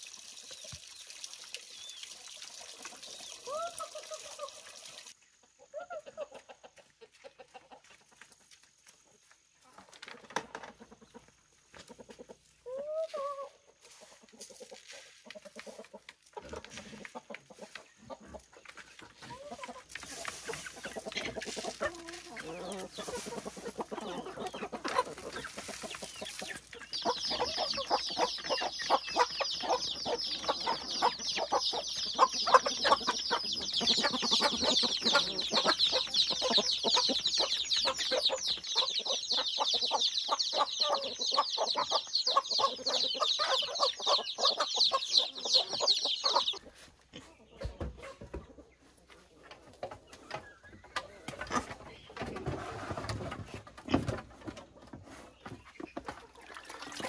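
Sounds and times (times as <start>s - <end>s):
chickens pecking grain: 1.8s - 57.0s
chickens clucking: 2.4s - 57.0s.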